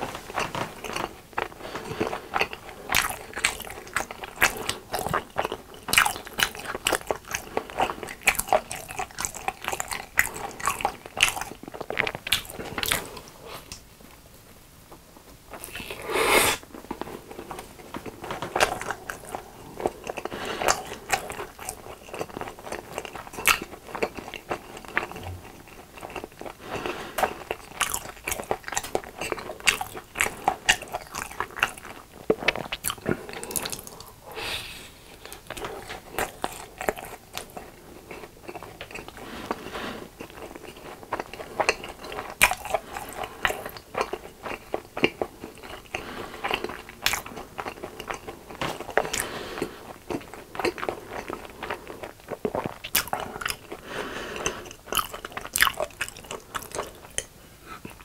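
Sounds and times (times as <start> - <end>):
crunchy food chewing: 0.0 - 13.8, 15.5 - 34.2, 35.1 - 58.0.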